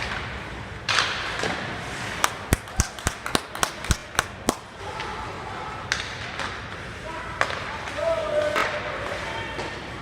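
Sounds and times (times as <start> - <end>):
hockey sticks and puck knocking: 0.0 - 5.1, 5.9 - 10.0
arena background hum: 0.0 - 10.0.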